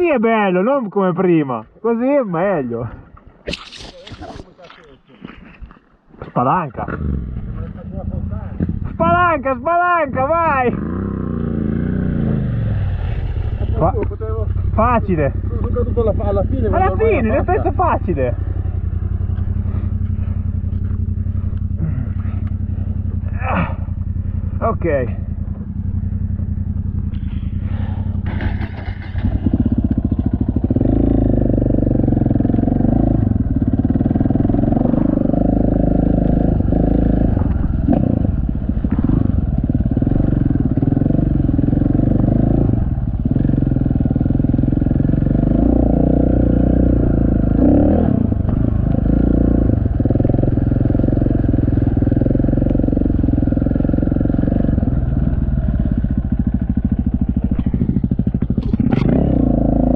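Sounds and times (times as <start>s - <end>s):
motorcycle engine under throttle: 6.8s - 9.4s, 10.2s - 59.9s.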